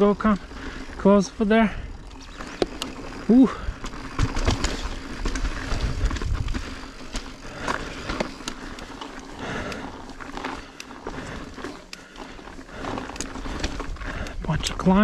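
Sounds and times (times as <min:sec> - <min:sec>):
bike tyres rolling on rock: 0:00.0 - 0:15.0
low wind rumble: 0:00.0 - 0:15.0
bike clicks and knocks: 0:02.0 - 0:15.0.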